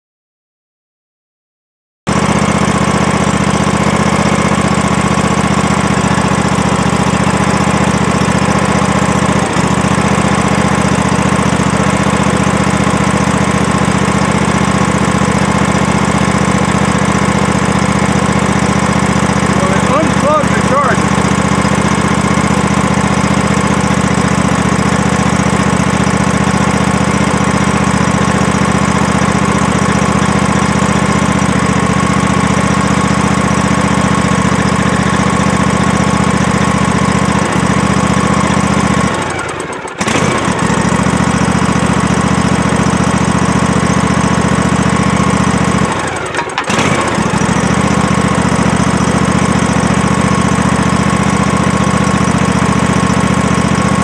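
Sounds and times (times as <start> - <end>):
riding lawn mower engine running: 2.1 - 54.0.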